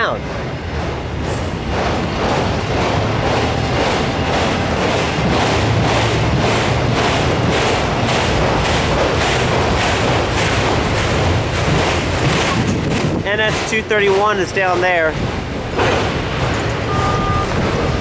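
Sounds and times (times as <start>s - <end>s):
steel wheels rumbling on rail: 0.0s - 18.0s
wheels clacking: 0.0s - 18.0s.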